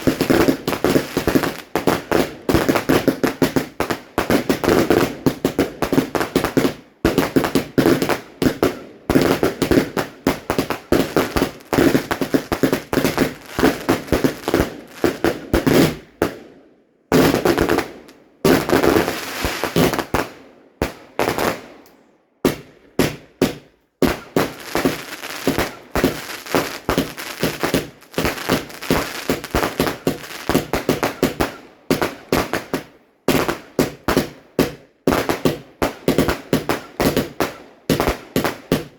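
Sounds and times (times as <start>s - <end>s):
fireworks bangs and crackles: 0.0s - 16.5s, 17.1s - 21.8s, 22.4s - 38.9s.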